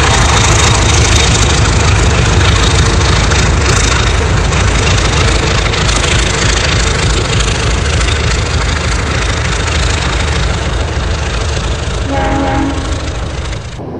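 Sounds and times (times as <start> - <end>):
diesel locomotive engine rumbling: 0.0 - 13.9.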